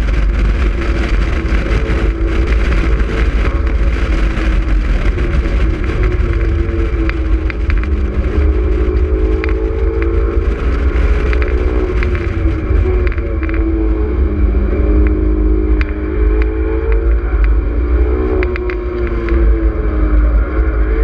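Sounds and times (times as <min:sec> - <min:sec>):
car engine running at speed: 0:00.0 - 0:21.0
wind rumble on microphone: 0:00.0 - 0:21.0.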